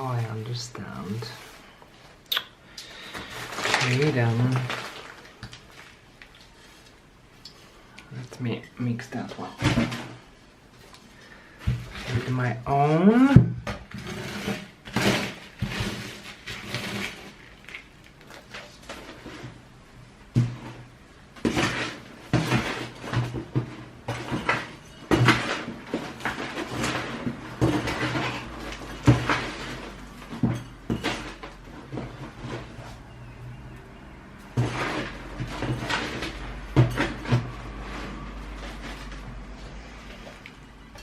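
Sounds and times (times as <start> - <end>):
hand scooping potting mix: 0.0 - 41.0.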